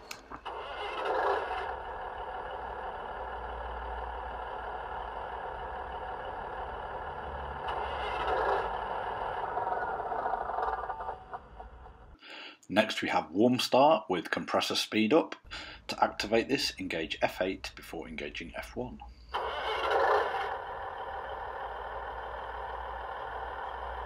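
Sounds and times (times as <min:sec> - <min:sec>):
model train diesel engine idling: 0:00.1 - 0:12.2, 0:15.5 - 0:24.0.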